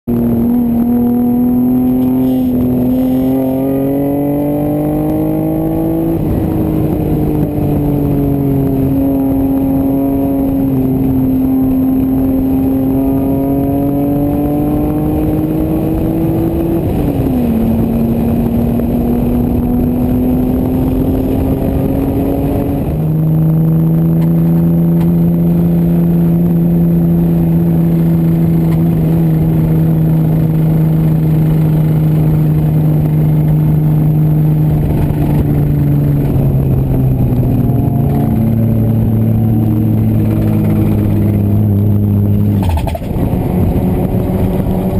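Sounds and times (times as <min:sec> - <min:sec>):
car engine revving under load: 0:00.1 - 0:44.9.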